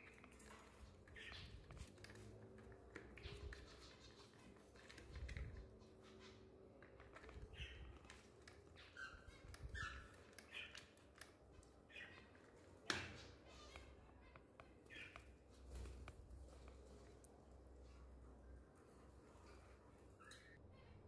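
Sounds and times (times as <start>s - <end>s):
faint handling sounds: 0.0s - 20.6s.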